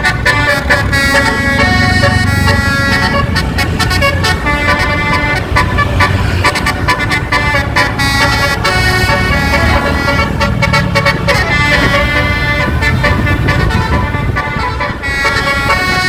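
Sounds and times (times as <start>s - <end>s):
musical bus horn playing a tune: 0.0s - 16.0s.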